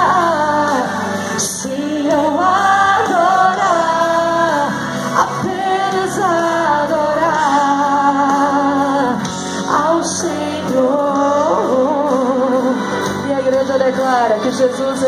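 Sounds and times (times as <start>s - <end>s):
instrumental backing chords: 0.0s - 15.0s
woman singing into microphone: 0.0s - 15.0s.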